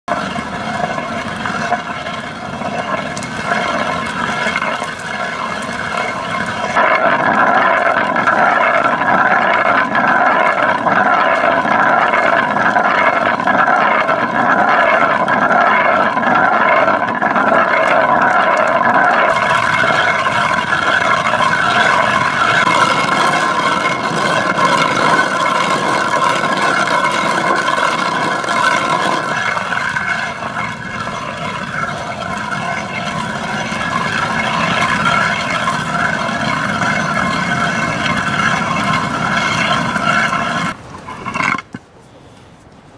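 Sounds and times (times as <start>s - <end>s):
stone quern grinding corn: 0.1s - 41.8s.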